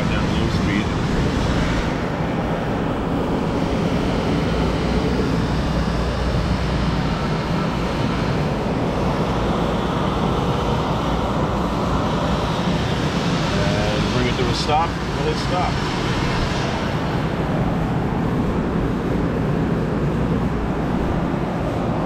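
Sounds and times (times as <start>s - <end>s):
mixer whirring at high speed: 0.0s - 18.8s.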